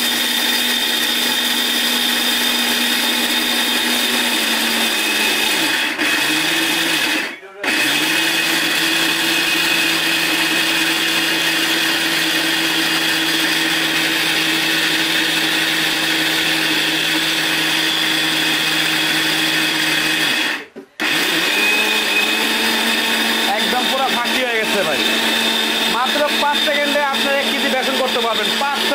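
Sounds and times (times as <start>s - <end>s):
mixer grinder grinding chickpeas: 0.0s - 28.9s.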